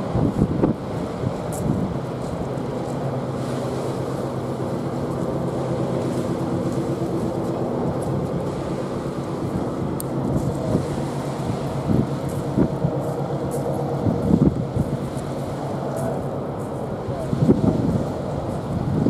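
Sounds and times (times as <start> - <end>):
ship engines droning: 0.0 - 19.0
wind and water rushing: 0.0 - 19.0.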